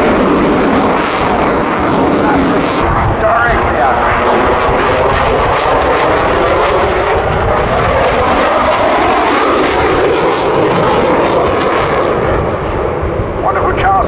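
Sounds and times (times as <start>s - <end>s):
jet engines roaring with crackle: 0.0s - 14.0s.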